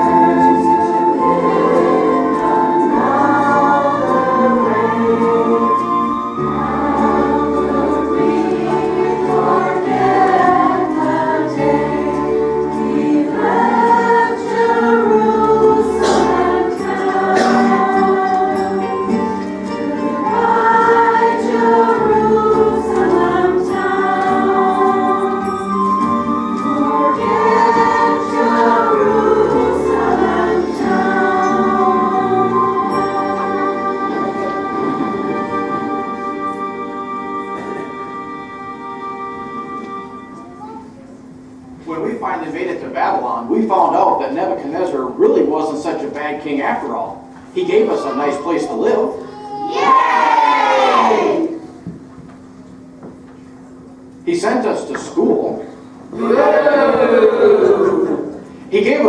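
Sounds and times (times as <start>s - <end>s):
choir singing gospel song: 0.0s - 39.8s, 45.2s - 51.8s, 55.6s - 59.0s.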